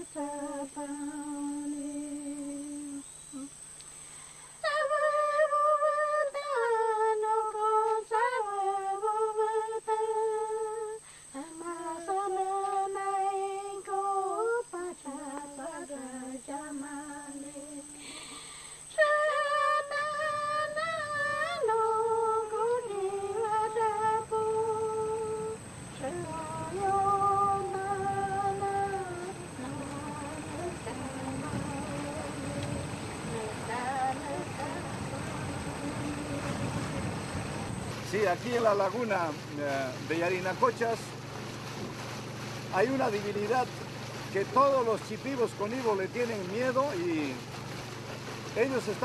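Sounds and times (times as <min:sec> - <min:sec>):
low steady rumble: 0:00.0 - 0:49.0.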